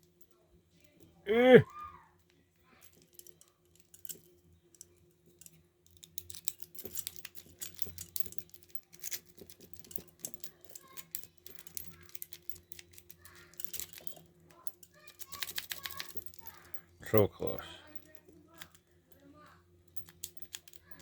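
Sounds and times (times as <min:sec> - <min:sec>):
handcuffs and chain clicking: 0:00.0 - 0:21.0.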